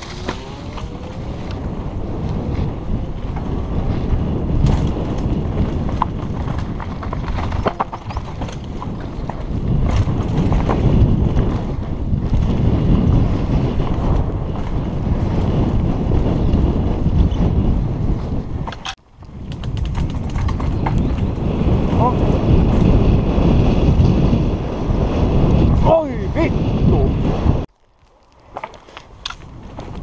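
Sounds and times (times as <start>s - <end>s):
bike rattles and knocks: 0.0s - 24.2s
bike tyre rumble on trail: 0.0s - 30.0s
wind buffeting microphone: 0.0s - 30.0s.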